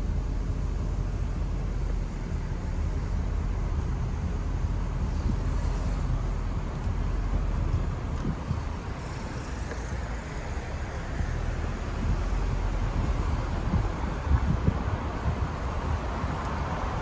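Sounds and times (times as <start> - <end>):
car driving road rumble: 0.0 - 17.0.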